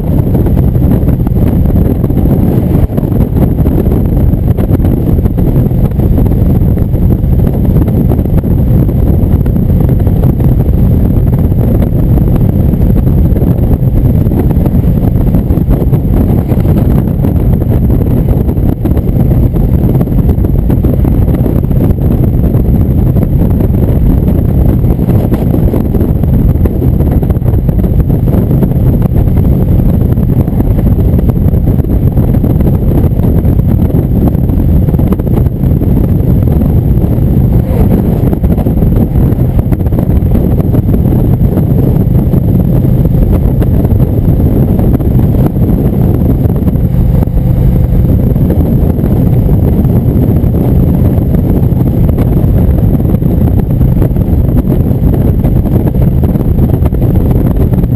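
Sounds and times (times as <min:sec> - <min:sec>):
heavy wind on microphone: 0:00.0 - 0:57.9
motorcycle engine cruising: 0:00.0 - 0:57.9.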